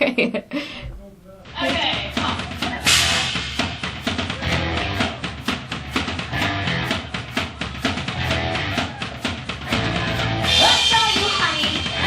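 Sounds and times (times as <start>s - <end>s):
bass drum: 1.4s - 12.0s
rock band playing: 1.5s - 12.0s.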